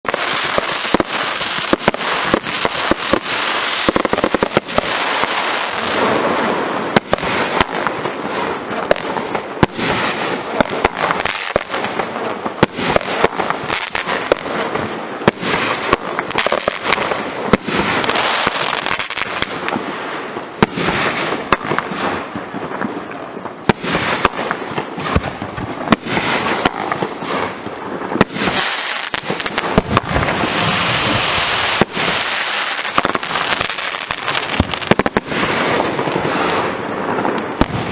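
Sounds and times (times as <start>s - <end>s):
fireworks banging and cracking: 0.0s - 37.9s
fireworks hissing: 0.0s - 37.9s.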